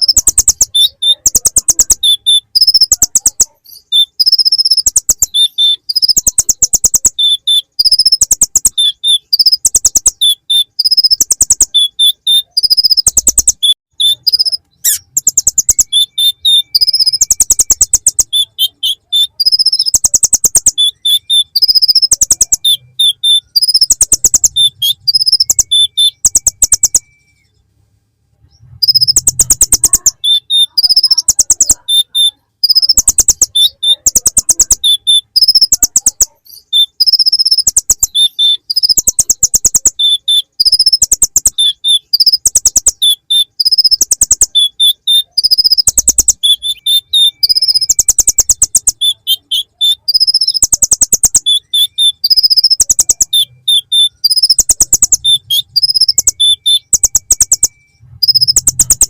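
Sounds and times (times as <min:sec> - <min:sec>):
sunbird singing high trilled phrases: 0:00.0 - 0:27.5, 0:28.8 - 0:59.0.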